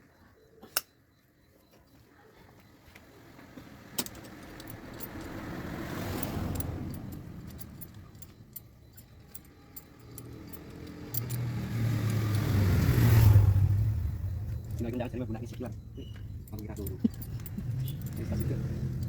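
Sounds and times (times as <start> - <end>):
vehicles passing by: 2.8 - 19.0
low engine hum: 3.1 - 19.0.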